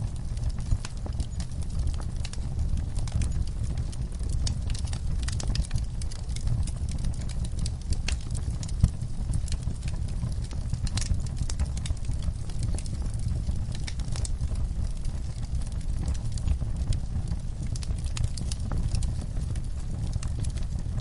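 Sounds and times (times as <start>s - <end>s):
burning logs crackling and popping: 0.0s - 21.0s
fire flames rumbling: 0.0s - 21.0s.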